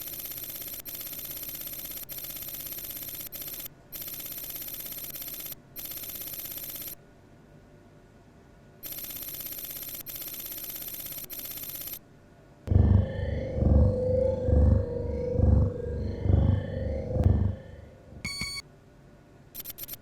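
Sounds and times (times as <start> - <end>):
faint hum: 2.2 - 20.0.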